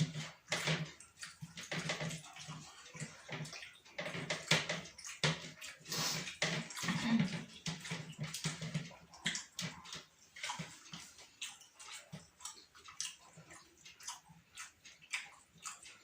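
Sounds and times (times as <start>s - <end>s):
wet chewing and lip smacking: 0.0s - 16.0s.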